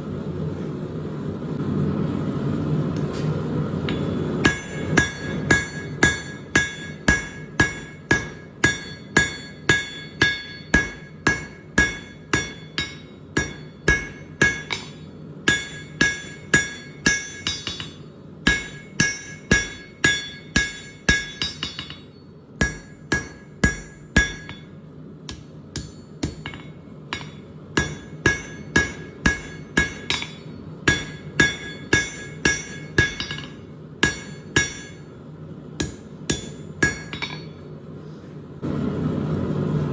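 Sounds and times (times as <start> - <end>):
hammer blows on anvil: 3.8 - 35.2, 35.8 - 37.7.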